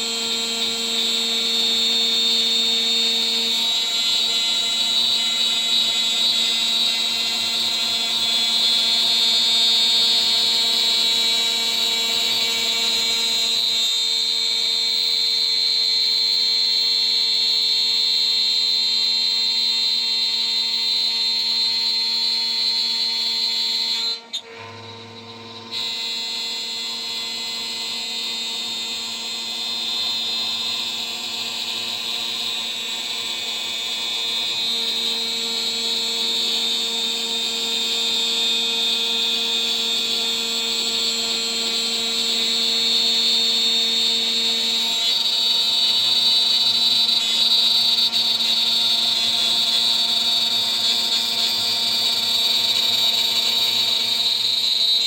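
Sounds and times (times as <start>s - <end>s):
router spindle whining while milling: 0.0s - 55.0s.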